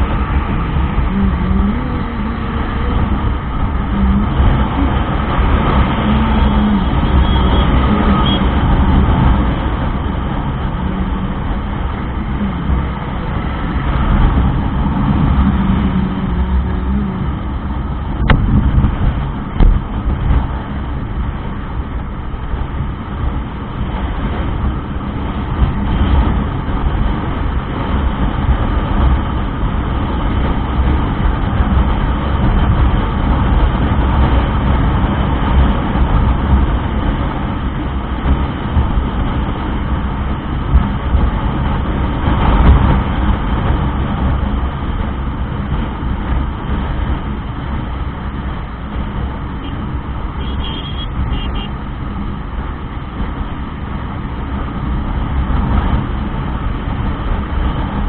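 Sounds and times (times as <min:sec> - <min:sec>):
motorcycle engine: 0:00.0 - 0:24.8, 0:30.8 - 0:54.0
road noise: 0:00.0 - 0:58.0
wind noise: 0:00.0 - 0:58.0.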